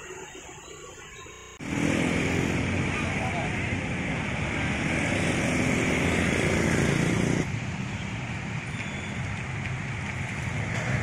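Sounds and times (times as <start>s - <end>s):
vehicles driving through floodwater: 1.5s - 11.0s
motor scooters passing: 1.6s - 11.0s.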